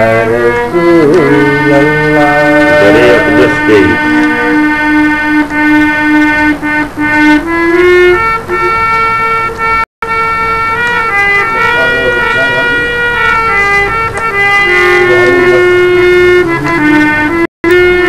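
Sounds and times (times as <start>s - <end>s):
harmonium playing held notes: 0.0s - 18.0s.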